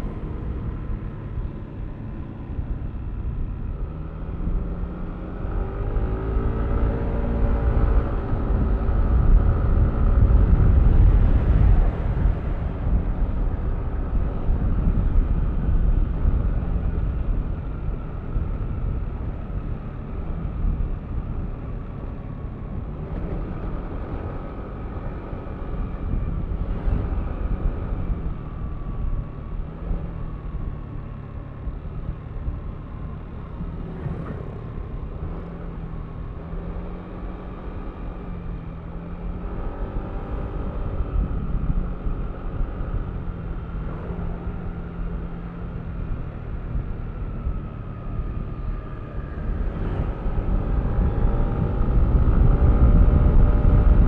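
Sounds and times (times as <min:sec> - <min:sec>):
road rumble: 0:00.0 - 0:54.0
wind: 0:00.0 - 0:54.0.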